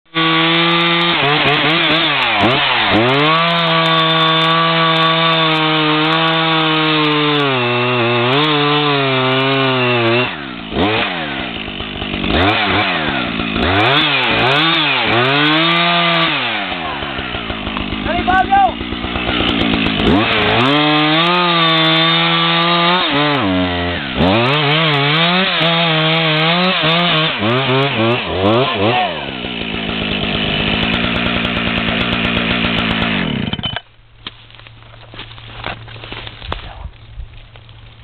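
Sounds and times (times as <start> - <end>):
chainsaw cutting tree trunk: 0.1 - 38.0.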